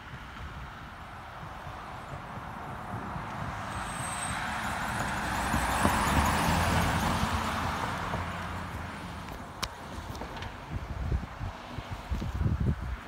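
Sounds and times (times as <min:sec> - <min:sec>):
vehicle engine and tyres passing: 0:00.0 - 0:13.0.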